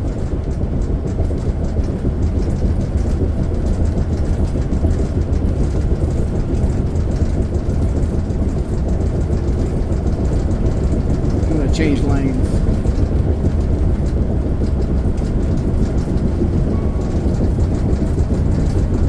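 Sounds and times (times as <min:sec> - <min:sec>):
motorhome road rumble: 0:00.0 - 0:19.0.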